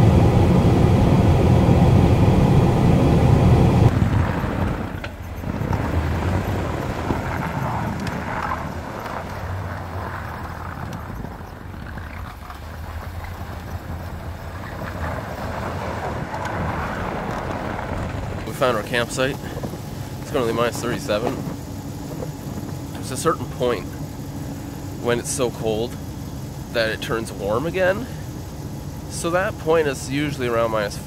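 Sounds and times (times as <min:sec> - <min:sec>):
truck engine and road rumble: 0:00.0 - 0:31.0
truck idling hum: 0:00.0 - 0:31.0.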